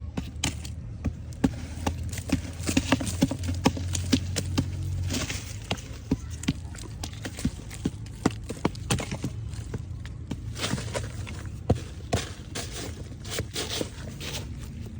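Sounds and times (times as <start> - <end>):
dried mud breaking with knocks: 0.0 - 14.9.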